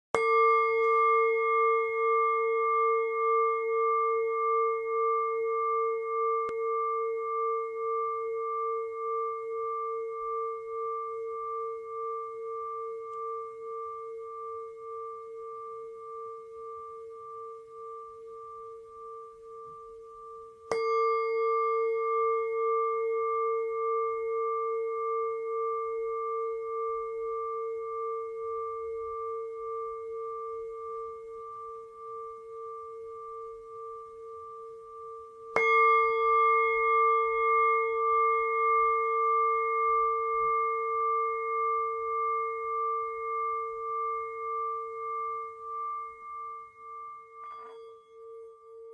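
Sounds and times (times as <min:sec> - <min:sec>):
singing bowl ringing: 0:00.2 - 0:48.9.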